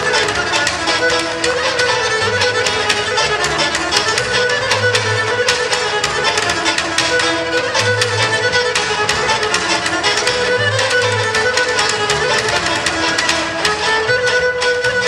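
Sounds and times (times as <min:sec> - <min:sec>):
bowed fiddle melody: 0:00.0 - 0:15.0
plucked double bass: 0:00.0 - 0:15.0
strummed lute: 0:00.0 - 0:15.0.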